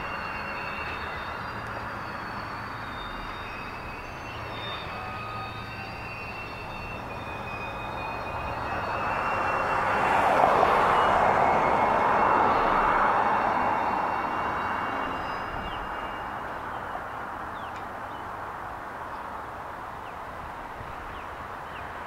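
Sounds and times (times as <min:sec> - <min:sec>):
high-pitched wheel squeals: 0:00.0 - 0:18.2
train wheels rolling on rail: 0:00.0 - 0:22.0.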